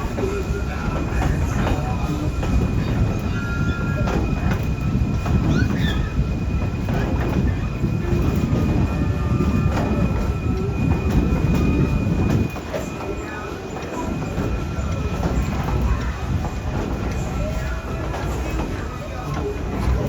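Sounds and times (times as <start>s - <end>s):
train cars rumbling on track: 0.0s - 20.0s
wheel squeal: 0.0s - 20.0s.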